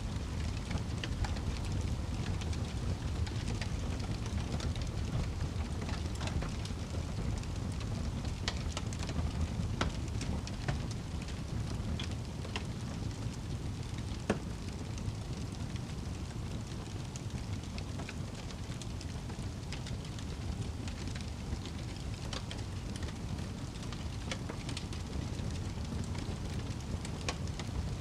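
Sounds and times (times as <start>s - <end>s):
fire flames rumbling: 0.0s - 28.0s
logs crackling and popping: 0.0s - 28.0s.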